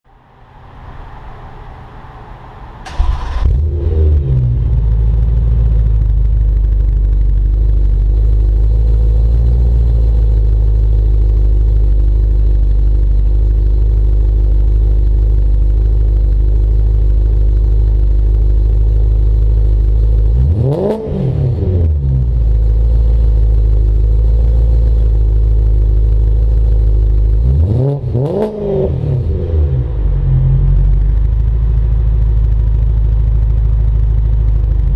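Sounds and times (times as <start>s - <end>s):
car engine starting and idling: 0.6s - 34.9s
car engine revving: 0.9s - 34.8s.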